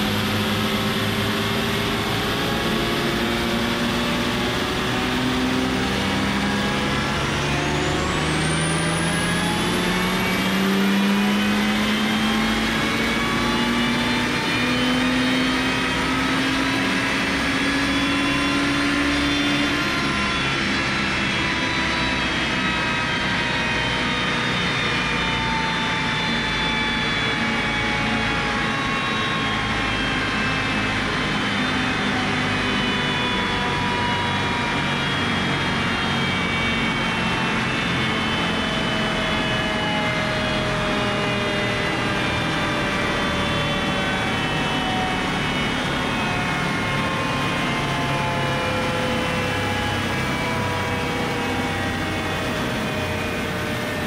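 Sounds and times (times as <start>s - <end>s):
dyno rollers winding down: 0.0s - 54.0s
high turbo whine: 0.0s - 54.0s.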